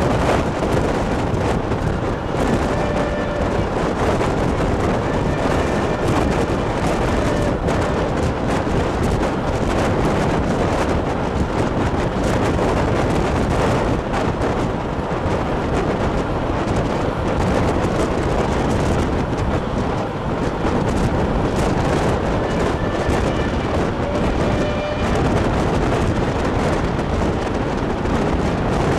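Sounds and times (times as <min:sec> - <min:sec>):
train running on rails: 0:00.0 - 0:28.9
wind buffeting microphone: 0:00.0 - 0:28.9.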